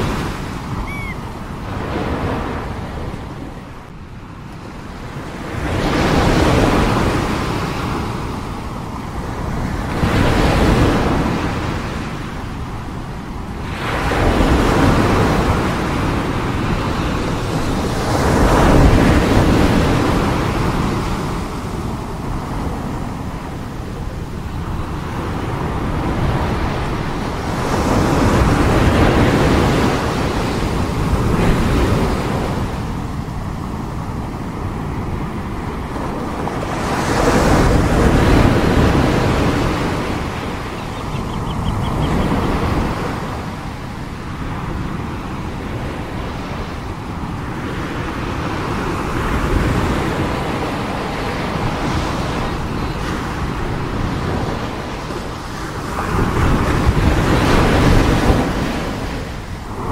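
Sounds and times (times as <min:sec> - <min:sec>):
ocean surf breaking on a beach: 0:00.0 - 0:59.9.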